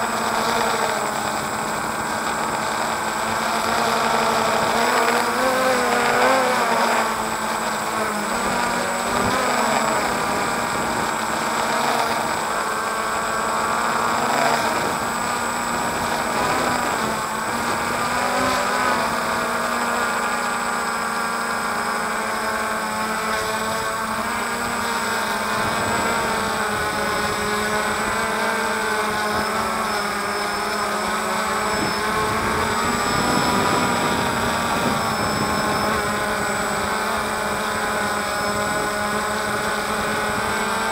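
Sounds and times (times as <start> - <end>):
drone propellers whirring: 0.0 - 40.9.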